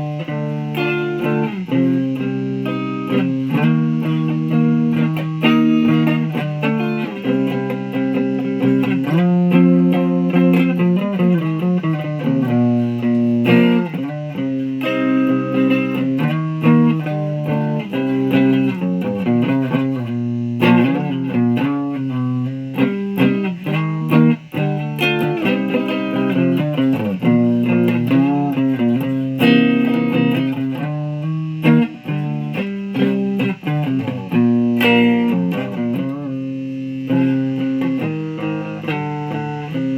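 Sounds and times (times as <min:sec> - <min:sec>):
electric guitar with string bends: 0:00.0 - 0:39.9.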